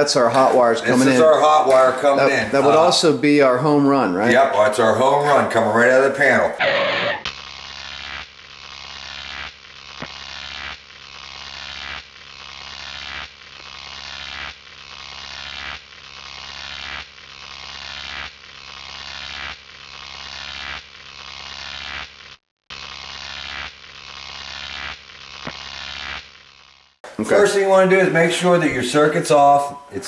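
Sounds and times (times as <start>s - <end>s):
harsh buzz: 0.0s - 30.0s.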